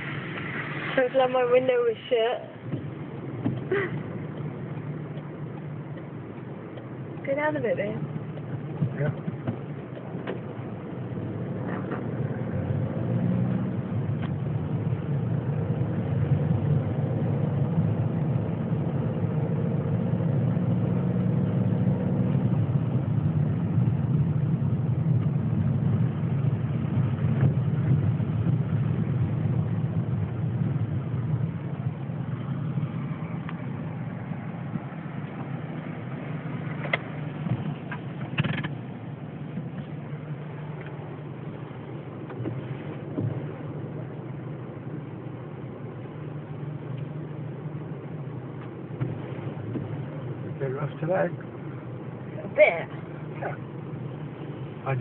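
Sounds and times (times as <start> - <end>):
car engine rumble: 0.0 - 55.0.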